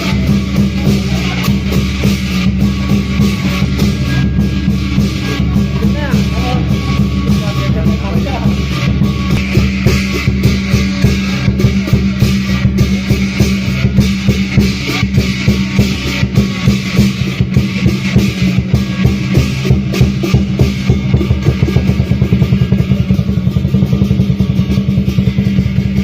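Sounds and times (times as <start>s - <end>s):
cymbals crashing: 0.0s - 26.0s
drum beating: 0.0s - 26.0s.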